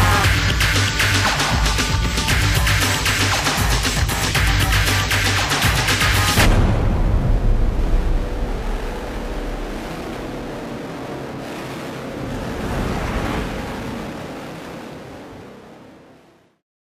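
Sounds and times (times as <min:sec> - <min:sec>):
rushing rumbling whoosh effect: 0:00.0 - 0:15.0.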